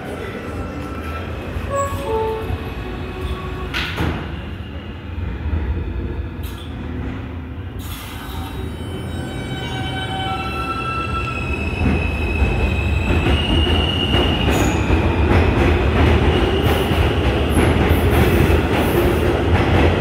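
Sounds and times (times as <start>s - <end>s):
subway train rumbling: 0.0s - 20.0s.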